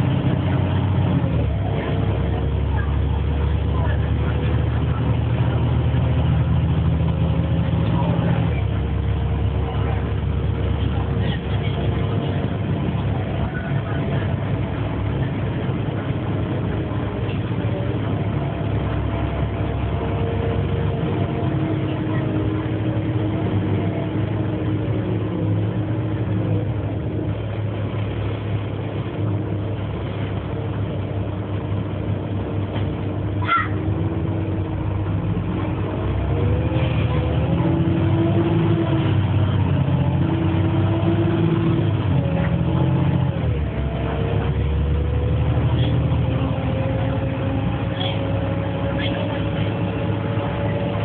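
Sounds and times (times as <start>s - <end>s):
bus engine and road rumble: 0.0s - 51.0s.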